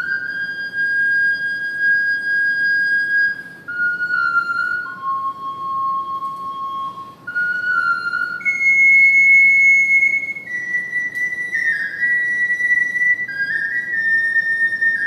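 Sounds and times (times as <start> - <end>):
ocarina playing slow melody: 0.0 - 15.0.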